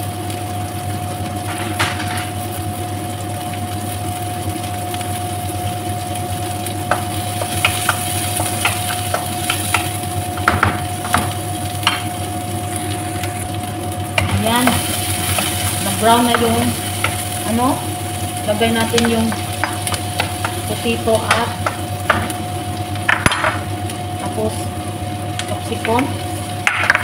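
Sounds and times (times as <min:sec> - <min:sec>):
steady hum: 0:00.0 - 0:27.0
vegetables sizzling in a wok: 0:00.0 - 0:27.0.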